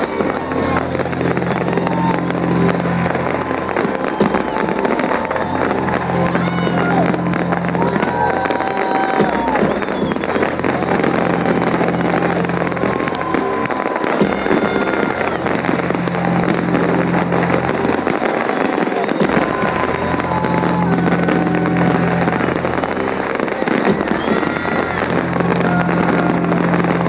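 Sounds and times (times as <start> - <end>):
crowd voices: 0.0 - 27.0
fireworks crackling and popping: 0.0 - 27.0
music with low bass: 0.0 - 27.0.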